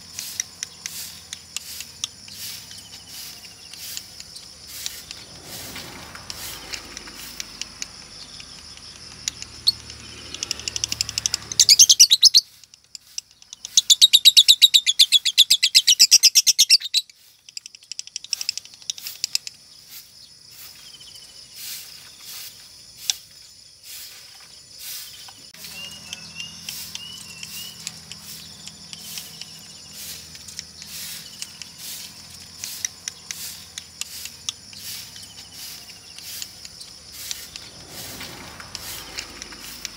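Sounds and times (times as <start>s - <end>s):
lovebird trilling: 0.0s - 18.7s, 24.9s - 39.9s
bird chips and chirps: 0.0s - 39.9s.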